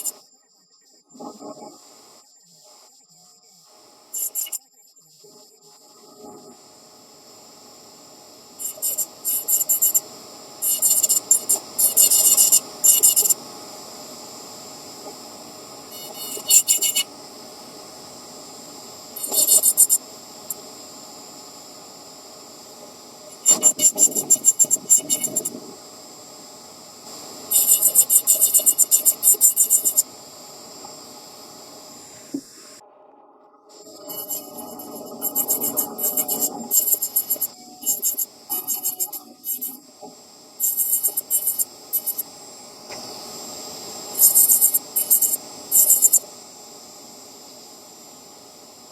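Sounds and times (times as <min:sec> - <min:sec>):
faint steady hiss: 0:00.0 - 0:48.9.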